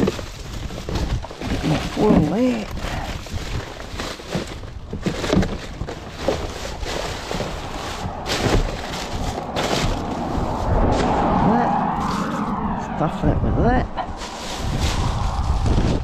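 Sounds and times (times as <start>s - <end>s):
plastic packaging rustling: 0.0s - 11.3s, 14.1s - 16.0s.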